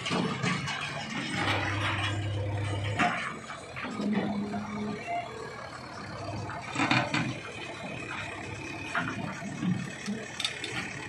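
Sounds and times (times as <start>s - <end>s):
diesel engines running: 0.0s - 11.0s.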